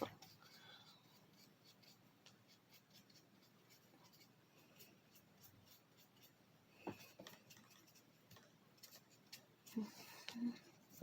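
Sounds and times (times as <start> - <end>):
paintbrush brushing: 0.0 - 11.0.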